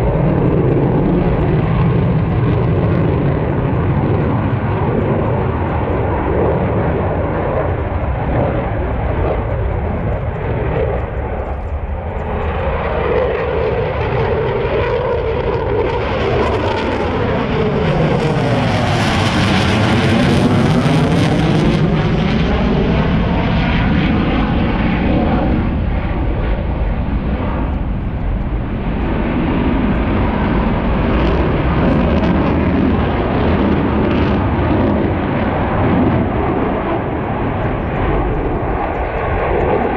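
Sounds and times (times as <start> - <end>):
aircraft flying past: 0.0 - 39.9.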